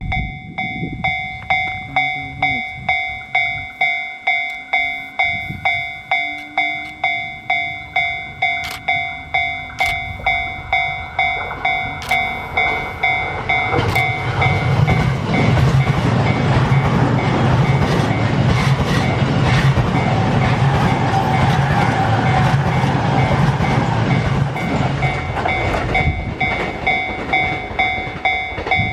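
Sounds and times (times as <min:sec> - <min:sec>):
level crossing bell ringing: 0:00.0 - 0:18.4, 0:19.0 - 0:28.9
train passing at speed: 0:00.0 - 0:28.9.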